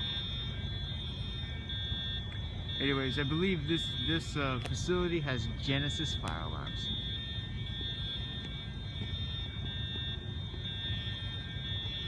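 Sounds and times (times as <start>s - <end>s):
fire alarm horns high tone: 0.0s - 12.0s.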